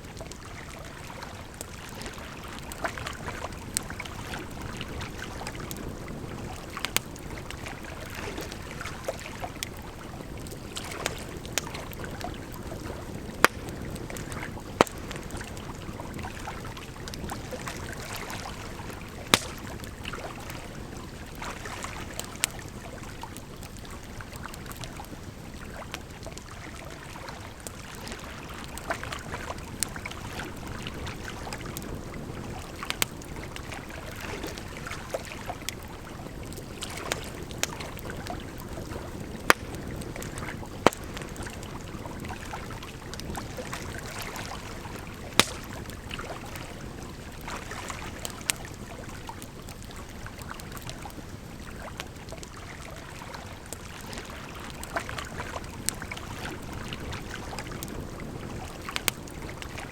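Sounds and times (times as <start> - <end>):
campfire crackling: 0.0 - 59.9
rushing water: 0.0 - 59.9.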